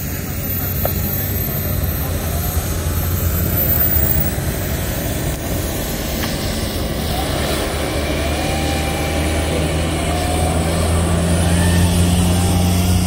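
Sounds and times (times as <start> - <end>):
model plane electric motors: 0.0 - 13.0
steady low rumble: 0.0 - 13.0.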